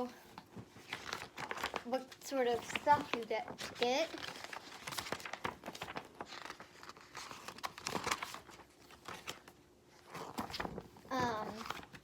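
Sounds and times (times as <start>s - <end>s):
packaging crinkling and rustling: 0.4s - 12.0s.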